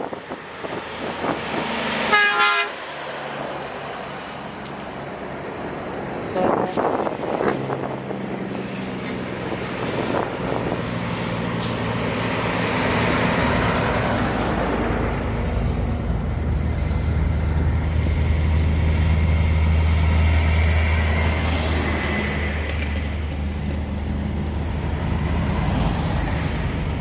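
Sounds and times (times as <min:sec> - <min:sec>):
heavy truck engine passing close: 0:00.0 - 0:27.0
truck engines droning: 0:00.0 - 0:27.0.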